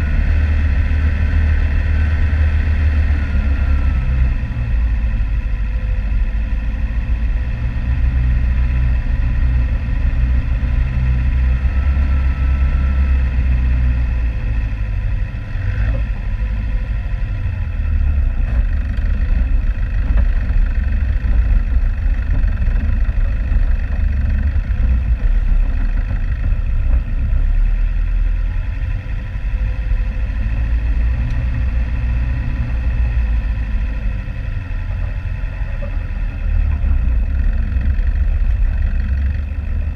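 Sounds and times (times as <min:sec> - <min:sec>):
vehicle engine low drone: 0:00.0 - 0:39.9.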